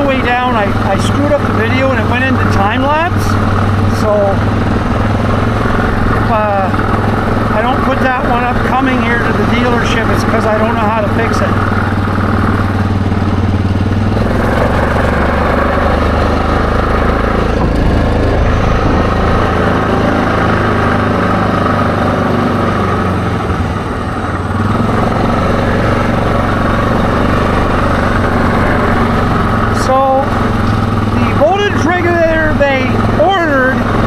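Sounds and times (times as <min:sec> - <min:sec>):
atv engine running: 0:00.0 - 0:34.0.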